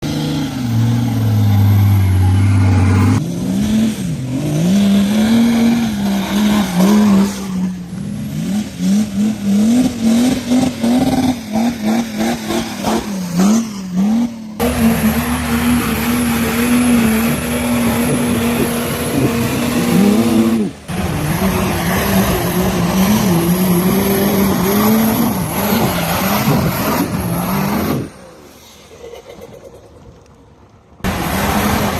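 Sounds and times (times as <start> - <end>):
off-road engines revving: 0.0 - 28.7, 31.0 - 31.9.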